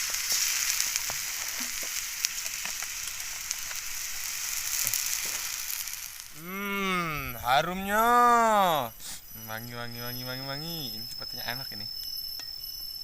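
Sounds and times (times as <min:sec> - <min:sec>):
mushrooms sizzling in hot oil: 0:00.0 - 0:13.0.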